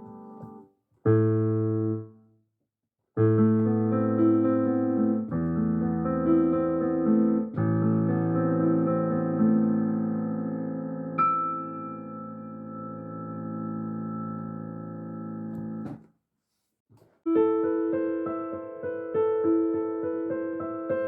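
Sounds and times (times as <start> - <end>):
piano chords: 0.0 - 2.1, 3.2 - 16.0, 17.3 - 21.0.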